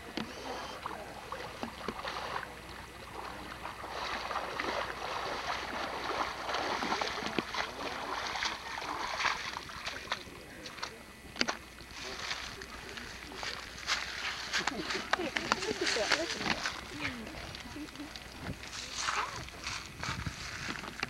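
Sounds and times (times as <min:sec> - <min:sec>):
water sloshing and splashing: 0:00.0 - 0:21.0.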